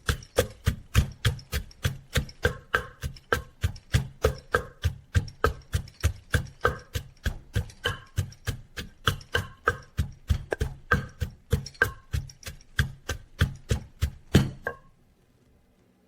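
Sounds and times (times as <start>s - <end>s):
pestle pounding in mortar: 0.0s - 15.0s.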